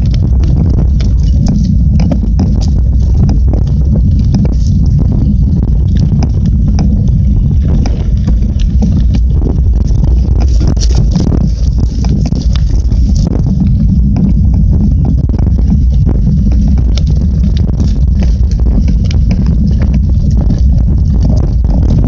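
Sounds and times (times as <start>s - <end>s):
bike rattling over bumps: 0.0s - 22.0s
mountain bike rolling on dirt trail: 0.0s - 22.0s.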